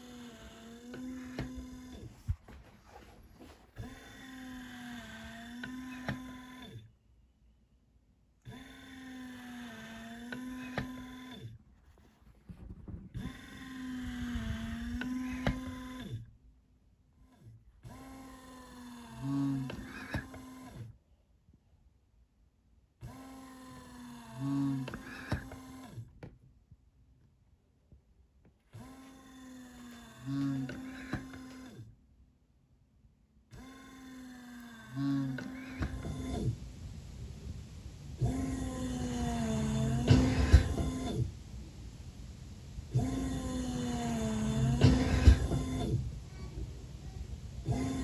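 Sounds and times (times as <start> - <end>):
ventilator motor humming: 0.0 - 7.0, 8.3 - 16.4, 17.2 - 21.0, 23.0 - 26.4, 28.5 - 31.9, 33.5 - 48.0.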